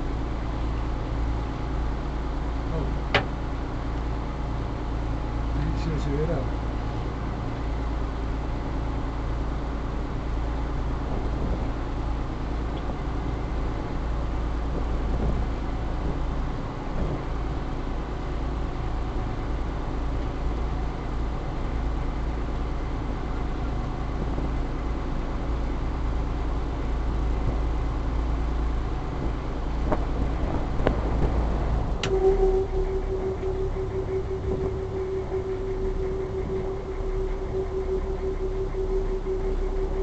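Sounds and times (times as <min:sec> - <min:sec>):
boat engine humming: 0:00.0 - 0:40.0.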